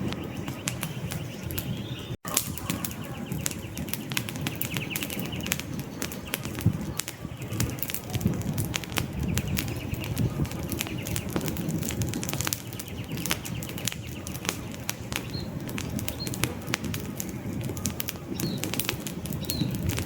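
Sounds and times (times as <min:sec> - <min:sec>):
campfire crackling and popping: 0:00.0 - 0:20.0
rustle of flame: 0:00.0 - 0:20.0.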